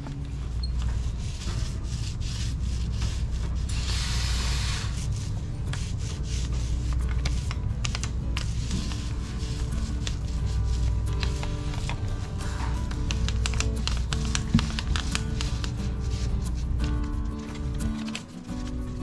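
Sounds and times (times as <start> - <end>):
paint roller rubbing: 0.0 - 19.0.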